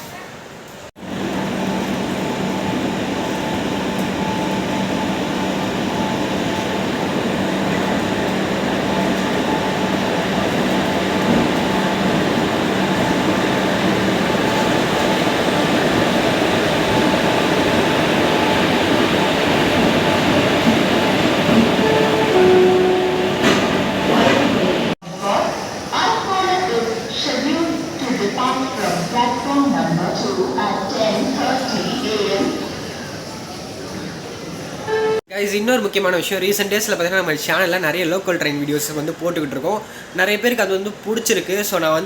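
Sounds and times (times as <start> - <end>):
train rumbling on rails: 1.0 - 35.2.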